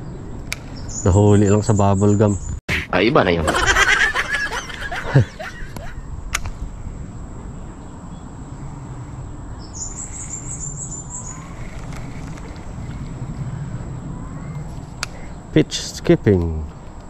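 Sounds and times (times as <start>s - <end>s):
bird chirping: 0.0s - 2.6s, 3.8s - 15.7s.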